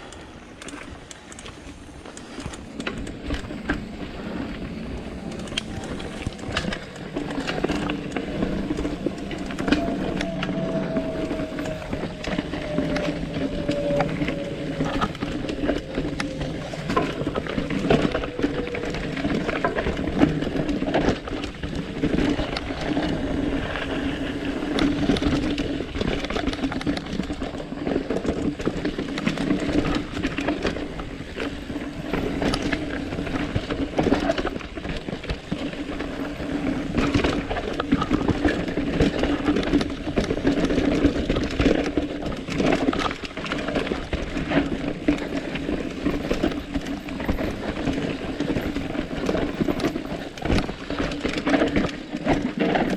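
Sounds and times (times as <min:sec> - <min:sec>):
bike tyres on dirt and rock: 0:00.0 - 0:52.9.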